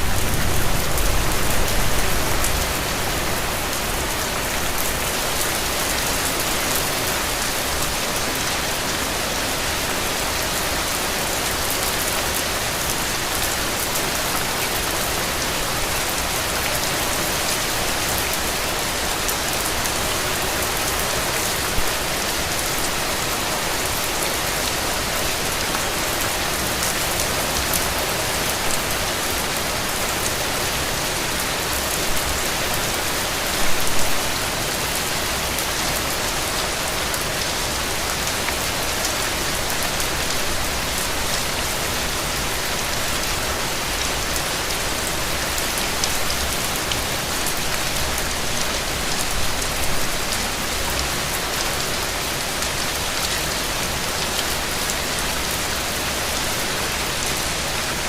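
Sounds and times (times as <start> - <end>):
rain on a hard surface: 0.0 - 58.0.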